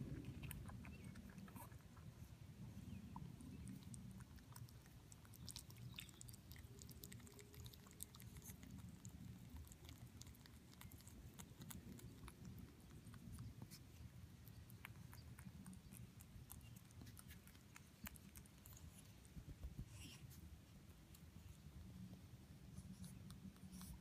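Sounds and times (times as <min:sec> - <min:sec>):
low steady hum: 0:00.0 - 0:24.0
rabbit chewing: 0:00.0 - 0:24.0.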